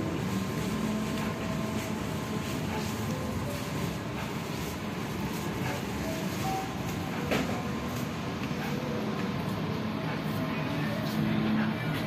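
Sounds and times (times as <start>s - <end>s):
busy shop floor noise: 0.0s - 12.0s.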